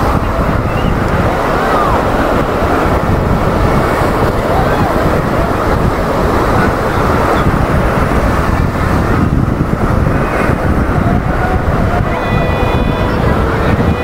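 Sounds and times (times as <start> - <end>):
sea surf rushing: 0.0 - 14.0
wind buffeting microphone: 0.0 - 14.0.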